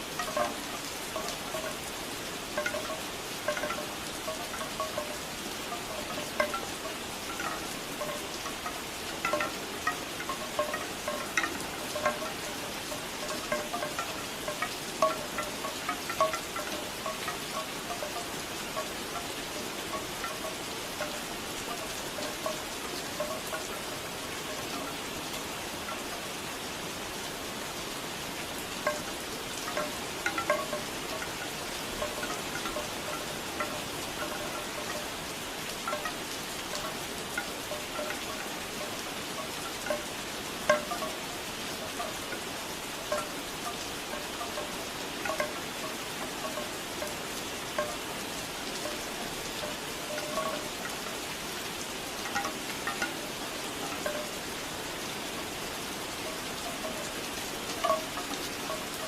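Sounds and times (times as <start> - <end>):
bamboo wind chimes clacking: 0.0 - 59.0
steady rain: 0.0 - 59.0.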